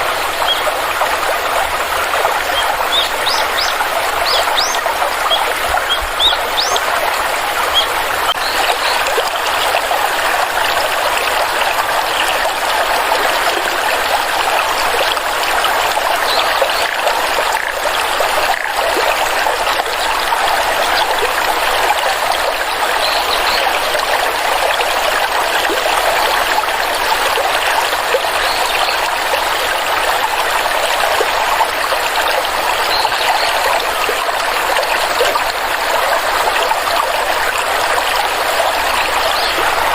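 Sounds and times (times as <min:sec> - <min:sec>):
stream water flowing and trickling: 0:00.0 - 0:39.9.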